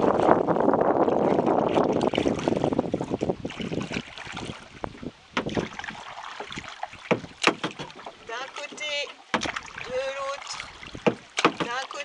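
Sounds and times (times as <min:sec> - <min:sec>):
paddle strokes splashing in water: 0:00.0 - 0:12.0
water dripping from paddle: 0:01.2 - 0:12.0.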